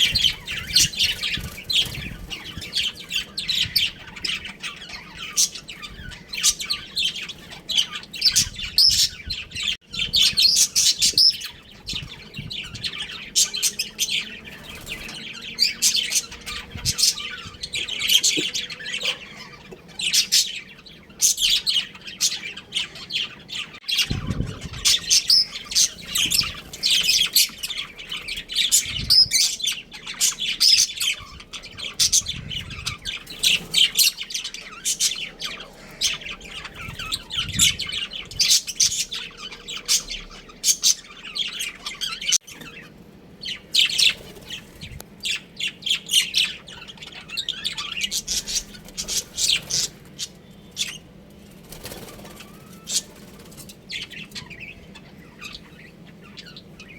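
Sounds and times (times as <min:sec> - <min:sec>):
budgerigars chirping and squawking: 0:00.0 - 0:56.9.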